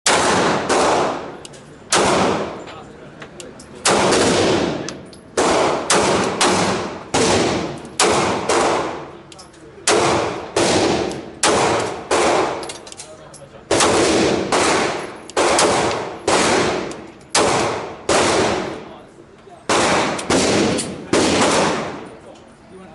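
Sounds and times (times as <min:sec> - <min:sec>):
pistol shots: 0:00.1 - 0:02.6, 0:03.8 - 0:09.1, 0:09.8 - 0:12.8, 0:13.7 - 0:18.8, 0:19.7 - 0:22.1.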